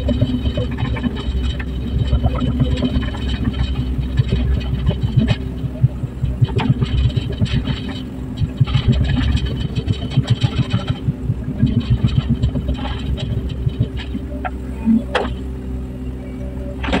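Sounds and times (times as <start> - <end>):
excavator diesel engine throbbing: 0.0 - 17.0
higher-pitched mechanical noise: 0.0 - 17.0.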